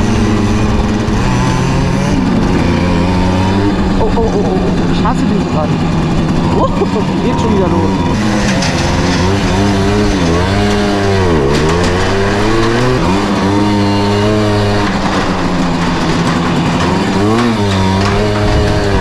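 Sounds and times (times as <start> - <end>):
moped engine running: 0.0 - 19.0.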